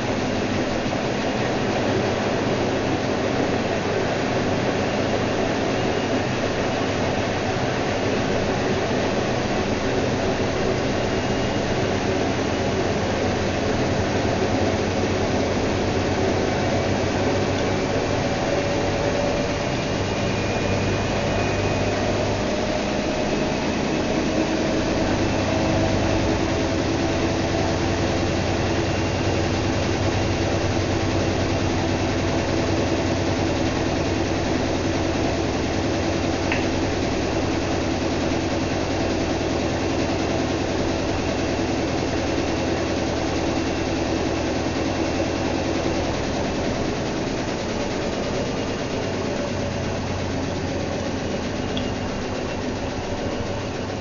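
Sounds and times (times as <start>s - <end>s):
washing machine whirring: 0.0s - 54.0s.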